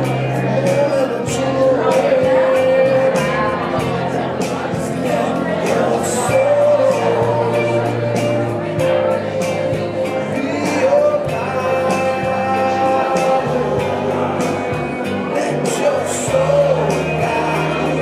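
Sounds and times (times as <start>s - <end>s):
bass line: 0.0s - 18.0s
guitar: 0.0s - 18.0s
person singing: 0.0s - 18.0s.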